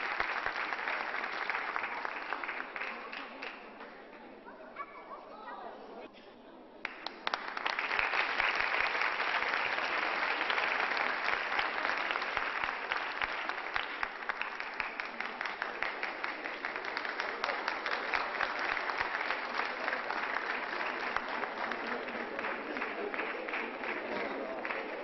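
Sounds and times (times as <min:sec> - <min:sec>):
audience applauding: 0:00.0 - 0:03.7, 0:06.8 - 0:25.0.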